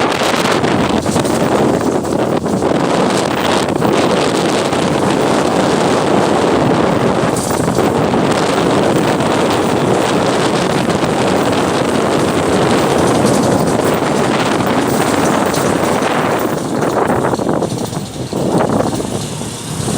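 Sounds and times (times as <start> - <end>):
road vehicle rushing noise: 0.0 - 19.9
wind buffeting microphone: 0.0 - 19.9.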